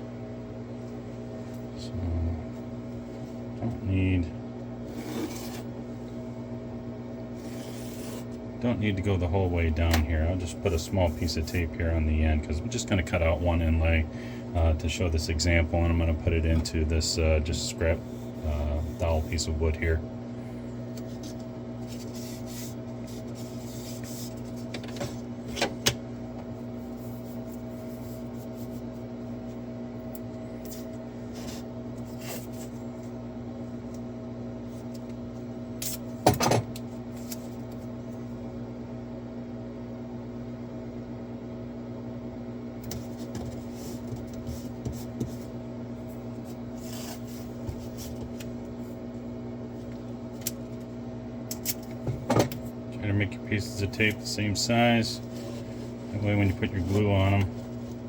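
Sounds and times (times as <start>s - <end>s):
electrical hum of shop equipment: 0.0s - 58.0s.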